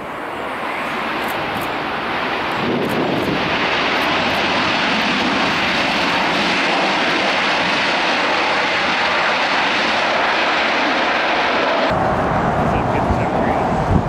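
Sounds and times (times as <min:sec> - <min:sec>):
airliner jet engines roaring: 0:00.0 - 0:14.0.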